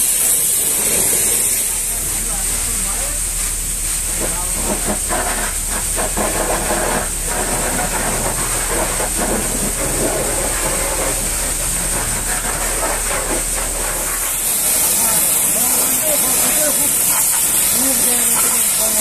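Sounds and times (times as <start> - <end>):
pressure washer hissing: 0.0 - 19.0
brush scrubbing: 0.6 - 19.0.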